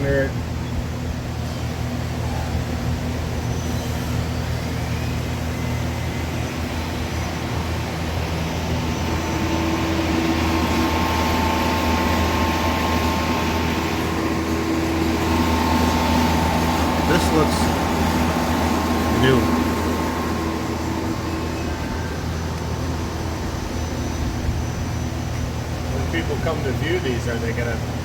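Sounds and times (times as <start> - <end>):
lathe spindle humming: 0.5 - 28.0.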